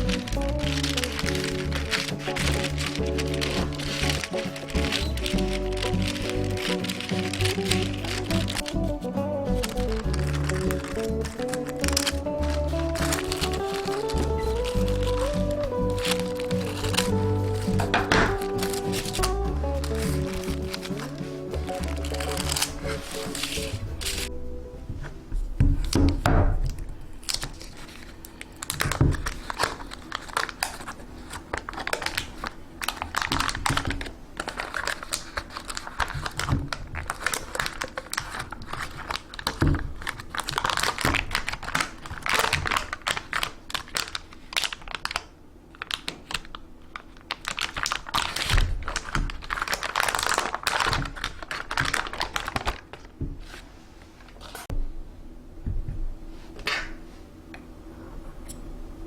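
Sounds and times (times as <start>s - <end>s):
plastic packaging crinkling: 0.0s - 24.3s, 25.8s - 54.7s.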